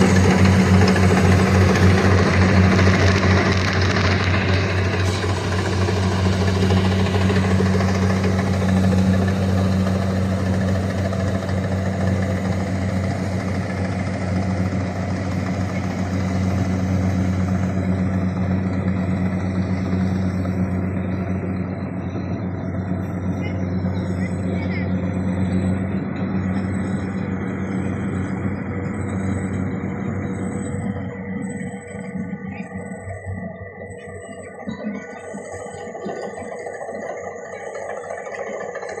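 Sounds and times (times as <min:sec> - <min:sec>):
combine harvester engine drone: 0:00.0 - 0:39.0
machinery clattering: 0:00.0 - 0:39.0.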